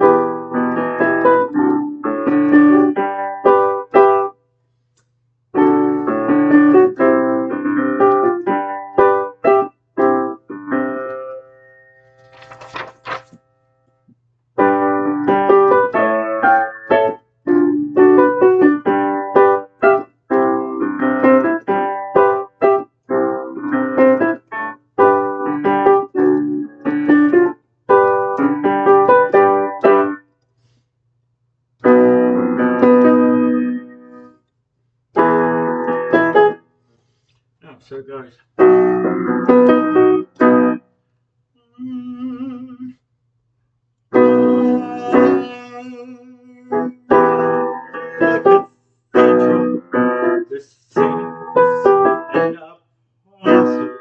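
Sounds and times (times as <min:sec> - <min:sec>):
piano chords: 0:00.0 - 0:04.4, 0:05.6 - 0:13.2, 0:14.6 - 0:30.2, 0:31.8 - 0:34.4, 0:35.1 - 0:36.6, 0:38.6 - 0:40.9, 0:44.1 - 0:52.8, 0:53.4 - 0:54.0.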